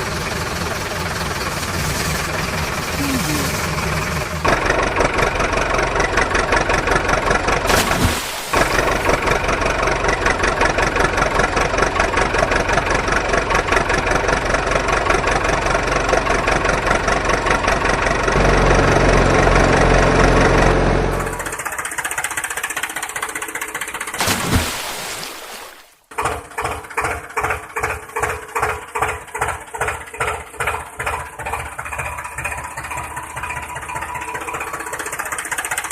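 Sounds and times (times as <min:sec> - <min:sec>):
engine chugging: 0:00.0 - 0:07.8, 0:08.5 - 0:24.2, 0:26.1 - 0:35.9.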